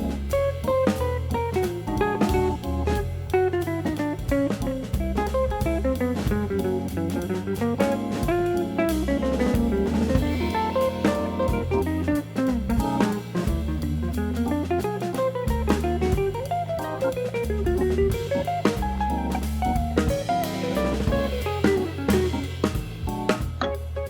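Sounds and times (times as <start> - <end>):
drum kit: 0.0 - 24.0
plucked guitar jazz tune: 0.0 - 24.0.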